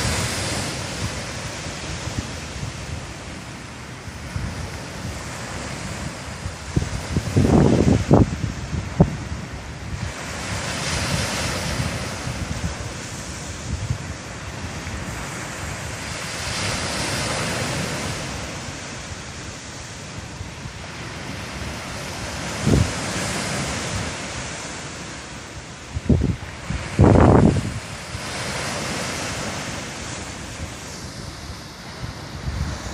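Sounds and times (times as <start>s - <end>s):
sea waves washing ashore: 0.0s - 32.9s
wind buffeting microphone: 0.0s - 32.9s.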